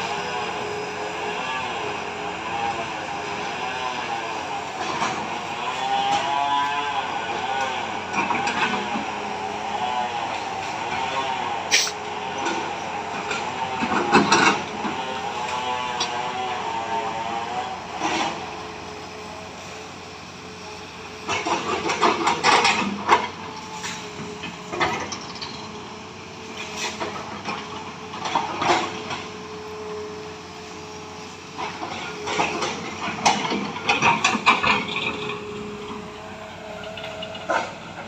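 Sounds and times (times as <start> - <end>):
diesel engine running: 0.0 - 38.0
steel tracks clanking and squealing: 0.0 - 38.0.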